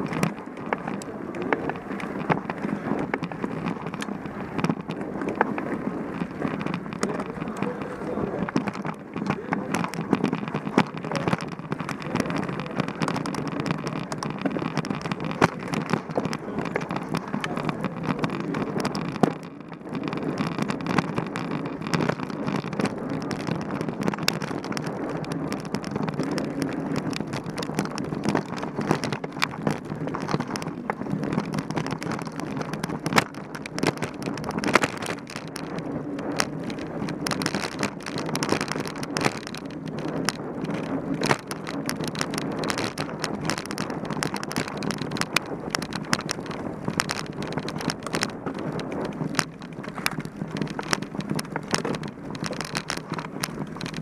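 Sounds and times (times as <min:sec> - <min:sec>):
bike rattling and clicking: 0:00.0 - 0:54.0
bike tyres on dirt trail: 0:00.0 - 0:54.0.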